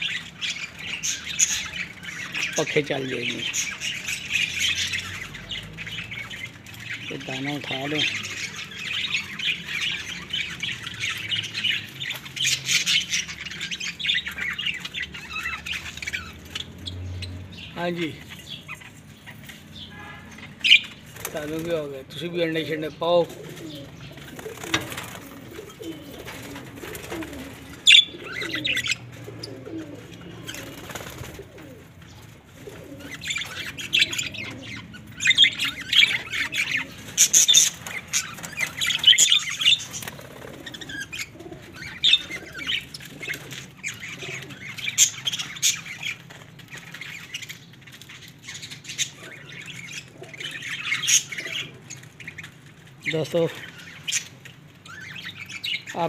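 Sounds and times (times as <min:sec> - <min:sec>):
pigeons cooing: 0:00.0 - 0:55.9
budgerigars chattering: 0:00.0 - 0:56.0.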